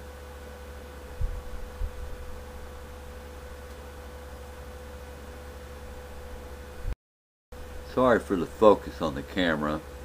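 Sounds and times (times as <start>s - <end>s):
steady hum: 0.0s - 7.0s, 7.6s - 10.0s.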